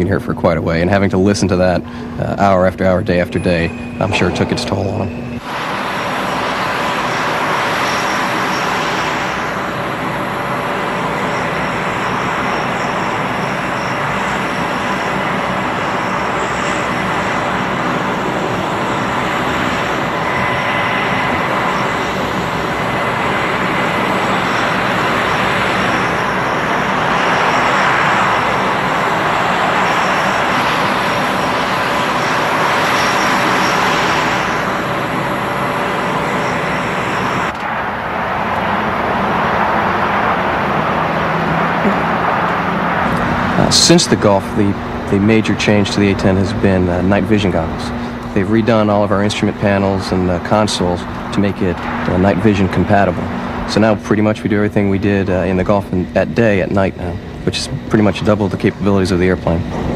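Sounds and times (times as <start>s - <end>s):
jet engines whining: 0.0s - 59.9s
jet noise rushing: 1.6s - 59.9s.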